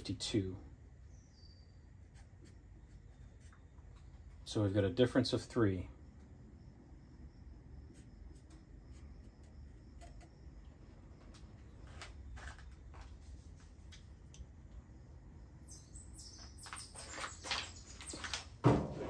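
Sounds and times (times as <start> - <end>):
low steady hum: 0.0 - 16.3.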